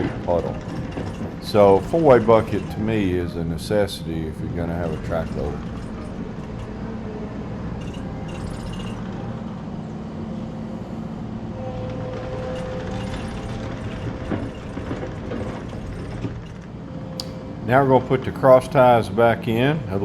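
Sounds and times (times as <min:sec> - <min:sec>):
hydraulic whine: 0:00.0 - 0:20.0
loader engine running: 0:00.0 - 0:20.0.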